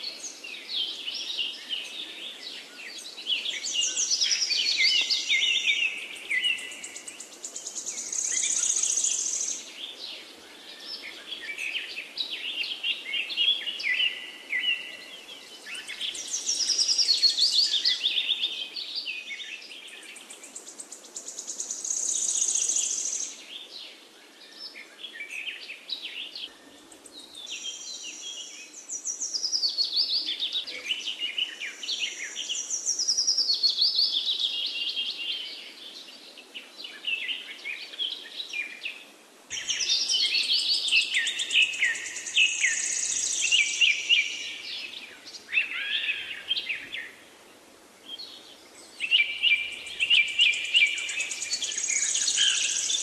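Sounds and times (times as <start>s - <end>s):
birdsong chirps and trills: 0.0s - 53.0s.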